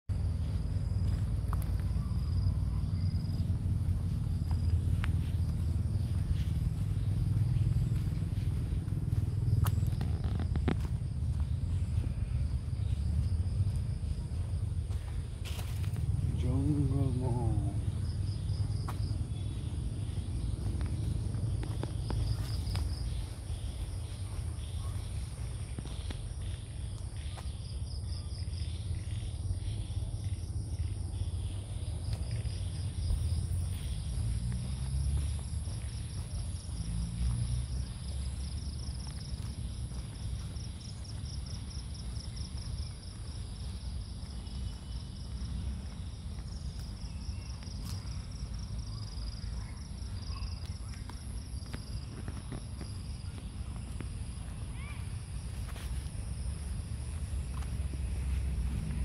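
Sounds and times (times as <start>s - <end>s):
insects droning: 0.1s - 59.0s
steady low rumble: 0.1s - 59.0s.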